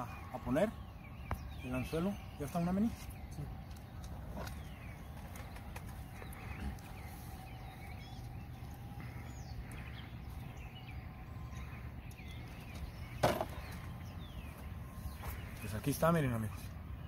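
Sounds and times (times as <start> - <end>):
faint bird chirps: 0.0 - 17.0
low outdoor rumble: 0.0 - 17.0.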